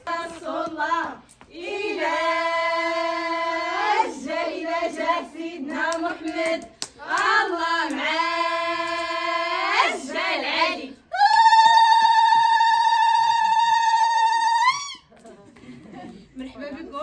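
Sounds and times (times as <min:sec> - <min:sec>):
women singing together: 0:00.0 - 0:15.0.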